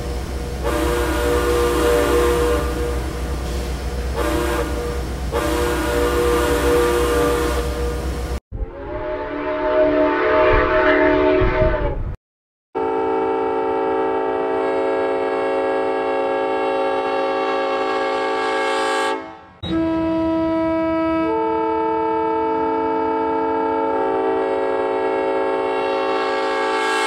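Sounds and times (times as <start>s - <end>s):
locomotive air horn blasts: 0.6s - 12.2s, 12.8s - 27.0s.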